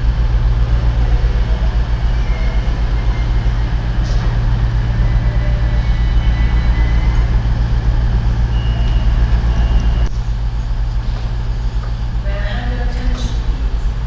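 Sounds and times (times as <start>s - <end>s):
diesel train engines idling: 0.0s - 14.0s.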